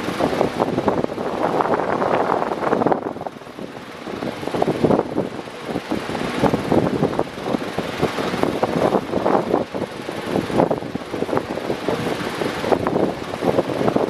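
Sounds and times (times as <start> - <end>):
electric fan air rushing: 0.0 - 14.0.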